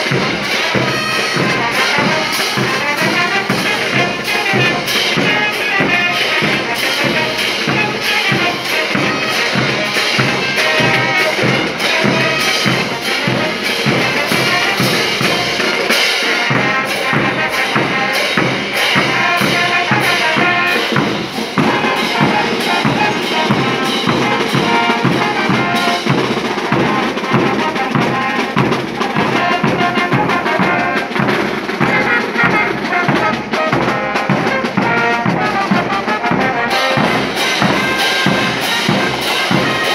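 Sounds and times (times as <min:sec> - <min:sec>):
bass drums: 0:00.0 - 0:39.9
snare drum: 0:00.0 - 0:39.9
trumpets: 0:00.0 - 0:39.9
tubas: 0:00.0 - 0:39.9.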